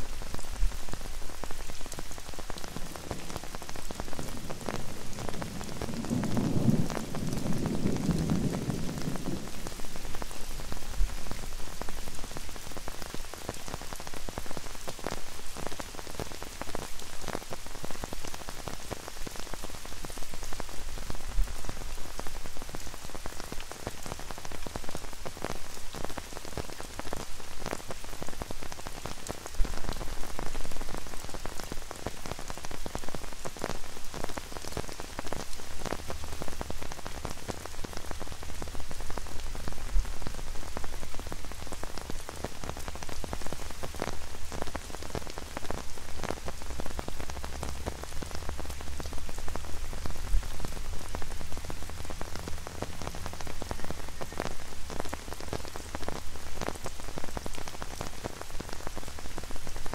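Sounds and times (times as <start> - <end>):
rain on umbrella and paving: 0.0 - 59.9.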